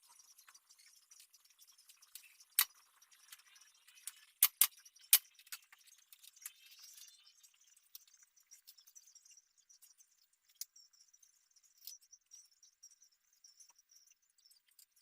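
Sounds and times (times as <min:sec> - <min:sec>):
faint small ticks and clinks: 0:00.0 - 0:15.0.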